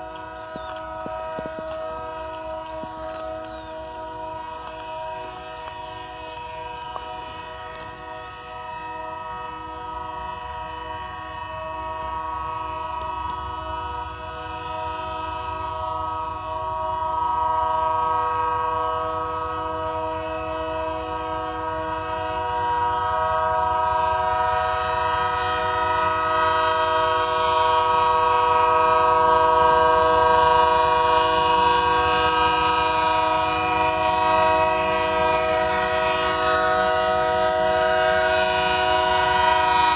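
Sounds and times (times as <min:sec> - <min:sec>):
train horn chord: 0:00.0 - 0:39.9
train rumbling: 0:00.0 - 0:39.9.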